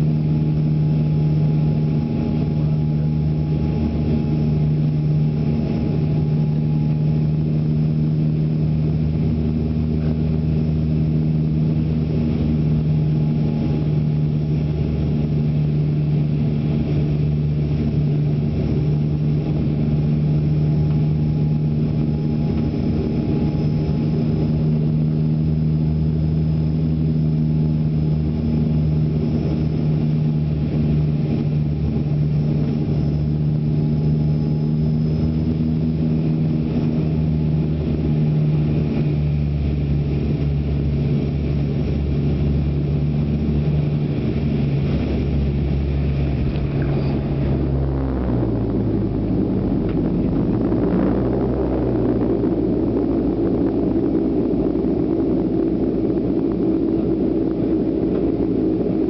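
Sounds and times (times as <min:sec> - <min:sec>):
propeller drone: 0:00.0 - 0:59.0.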